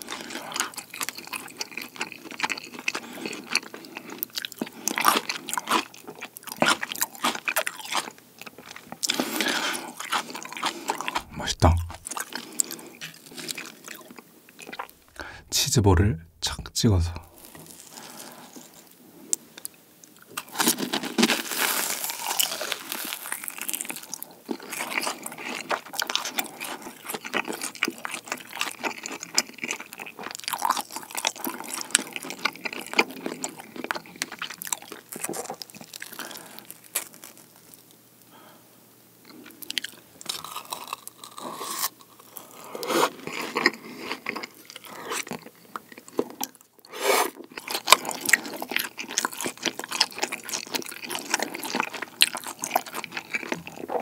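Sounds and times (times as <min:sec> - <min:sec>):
chewing and crunching fried food: 0:00.0 - 0:15.4, 0:17.2 - 0:38.6, 0:39.2 - 0:54.0.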